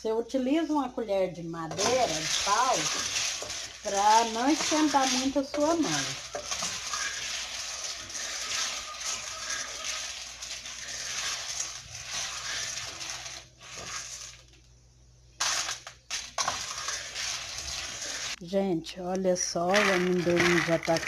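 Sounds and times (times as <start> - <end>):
peanuts rattling in metal pot: 1.7 - 14.6, 15.4 - 18.4, 19.4 - 21.0.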